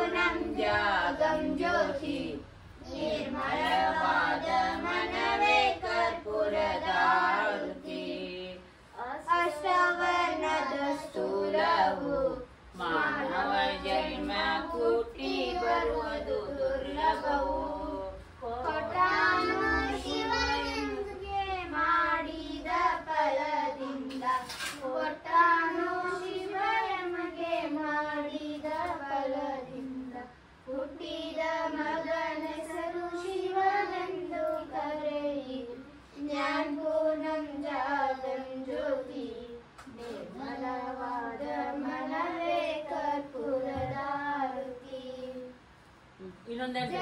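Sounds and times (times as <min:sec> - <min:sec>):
women singing a prayer song: 0:00.0 - 0:45.7, 0:46.6 - 0:47.0.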